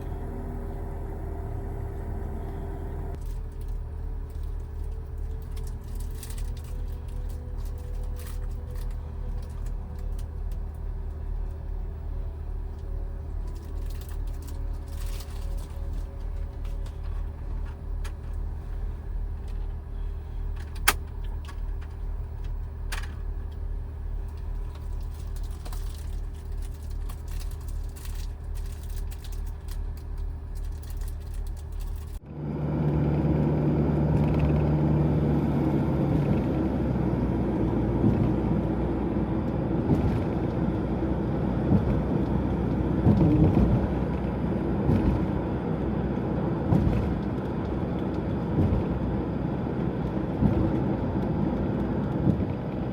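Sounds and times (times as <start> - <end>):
vehicle engine humming and rumbling: 0.0 - 52.9.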